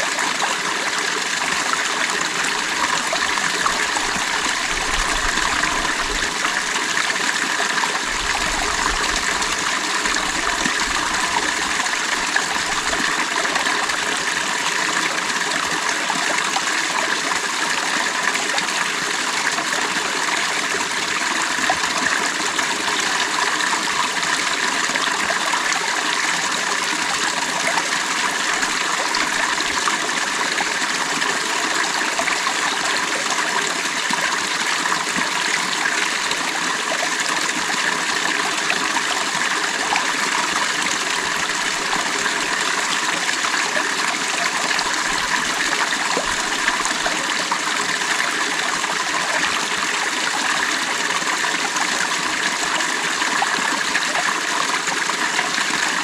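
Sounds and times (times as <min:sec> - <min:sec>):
creek water running over stones: 0:00.0 - 0:56.0.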